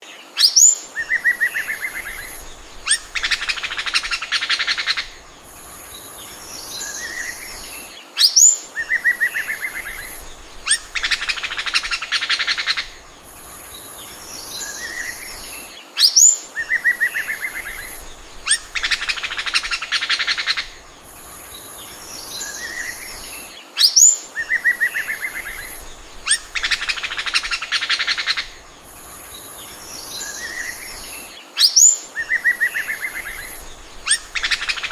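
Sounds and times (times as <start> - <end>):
bird song with whistles and trills: 0.4 - 34.9.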